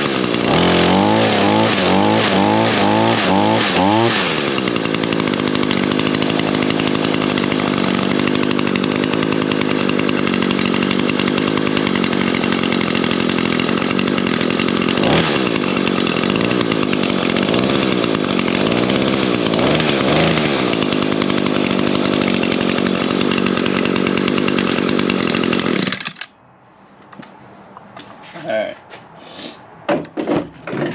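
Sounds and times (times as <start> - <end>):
string trimmer engine running: 0.0 - 26.3.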